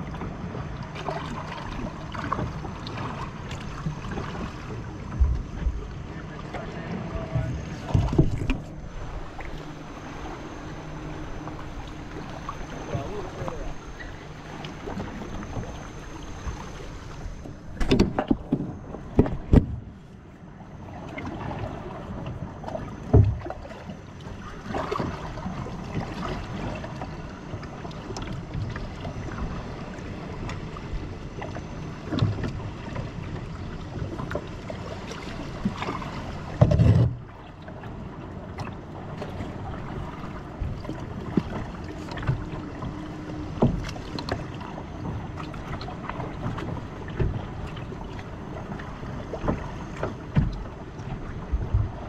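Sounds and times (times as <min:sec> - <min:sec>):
paddle splashing water: 0:00.0 - 0:52.0.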